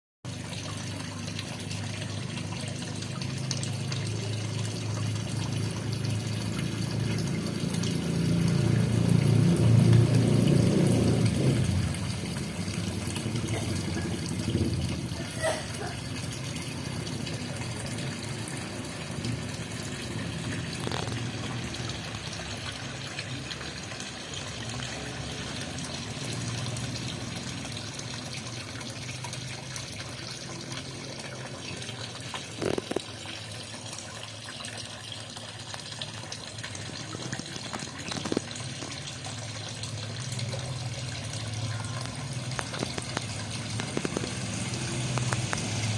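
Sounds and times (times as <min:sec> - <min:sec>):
water running into pond: 0:00.2 - 0:45.9.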